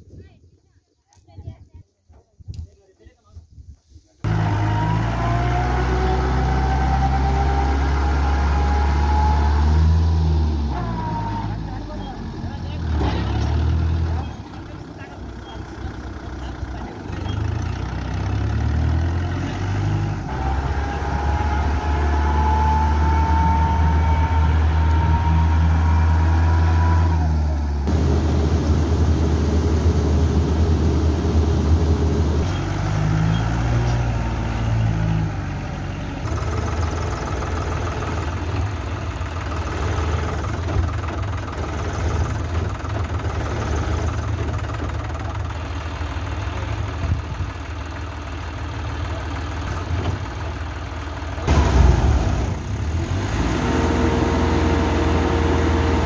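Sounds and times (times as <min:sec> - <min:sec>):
combine harvester diesel engine: 0:04.2 - 0:56.0
tractor engine pulling hard: 0:04.3 - 0:56.0.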